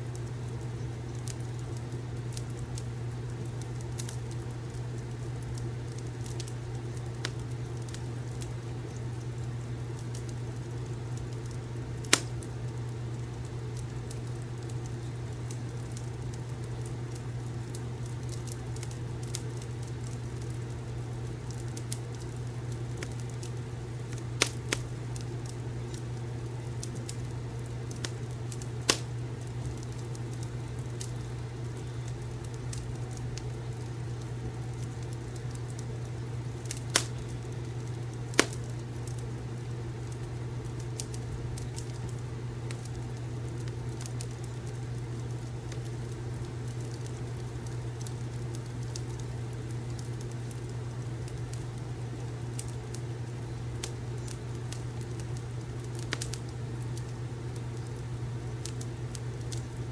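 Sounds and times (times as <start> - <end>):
fire crackles and pops: 0.0 - 59.9
fireplace fire rumble: 0.0 - 59.9.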